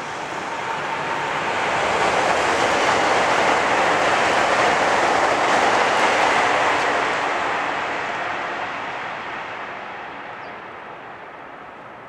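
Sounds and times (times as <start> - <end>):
train rushing rail noise: 0.0 - 12.0.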